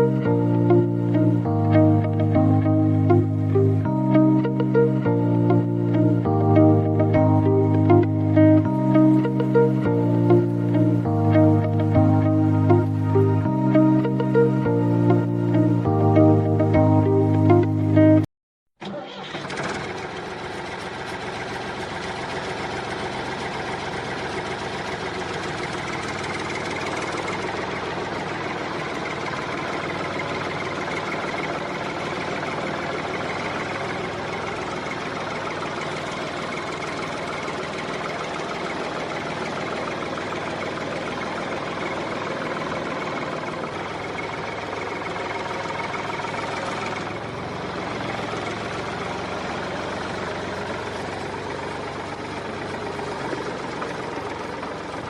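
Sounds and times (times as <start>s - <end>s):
small engine idling: 0.0s - 18.0s, 18.8s - 55.0s.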